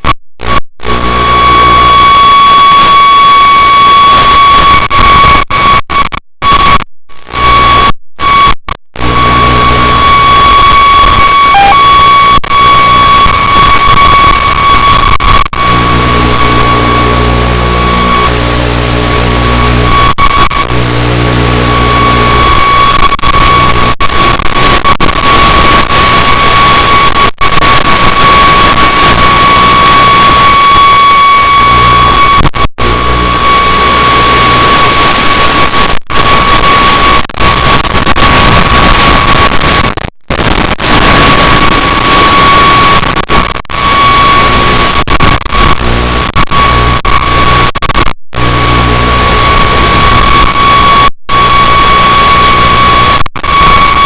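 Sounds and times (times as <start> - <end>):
high whine: 0.0 - 54.0
video static hiss: 0.0 - 54.0.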